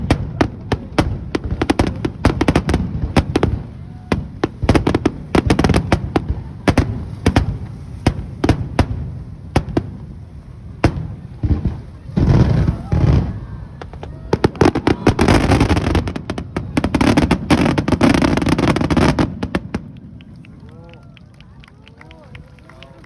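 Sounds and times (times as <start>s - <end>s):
fireworks bursting with sharp bangs: 0.0s - 20.3s.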